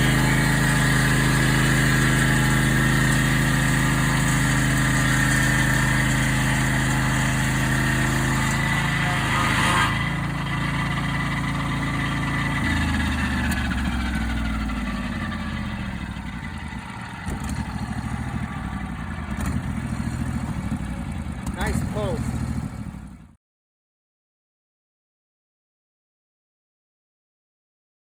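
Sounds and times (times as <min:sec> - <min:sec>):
sawmill engine running: 0:00.0 - 0:23.3.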